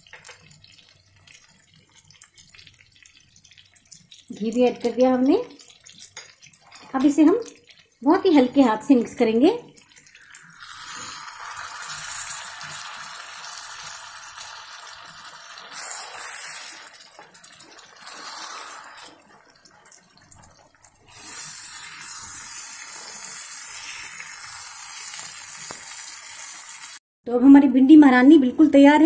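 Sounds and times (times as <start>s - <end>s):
curry sizzling in a metal pan: 0.0s - 27.0s.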